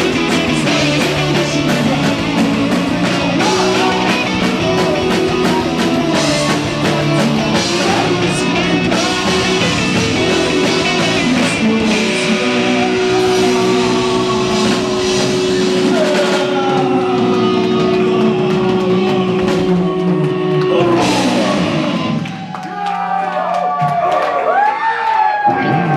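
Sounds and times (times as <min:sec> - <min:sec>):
rock band playing live: 0:00.0 - 0:22.8.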